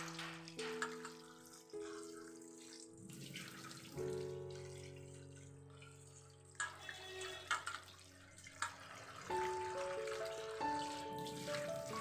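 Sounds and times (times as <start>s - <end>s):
soft background music: 0.0s - 12.0s
tap water running and splashing: 0.0s - 12.0s.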